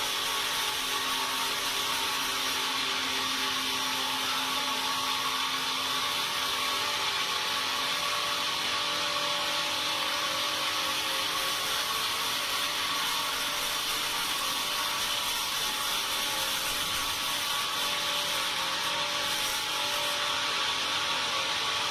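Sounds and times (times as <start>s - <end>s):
sawmill saw cutting timber: 0.0s - 21.9s.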